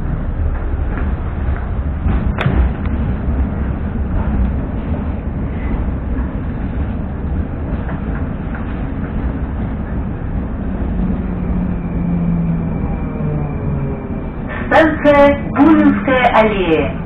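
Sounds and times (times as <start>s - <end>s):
train rumble and track noise: 0.0s - 17.0s.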